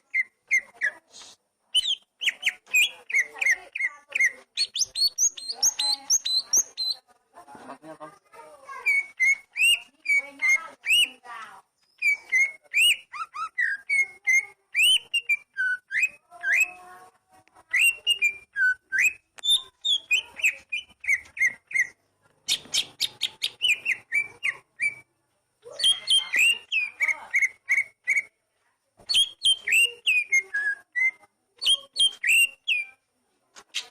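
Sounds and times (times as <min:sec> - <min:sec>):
songbird whistling and chattering: 0:00.0 - 0:07.0, 0:08.7 - 0:16.8, 0:17.6 - 0:28.4, 0:29.1 - 0:33.0.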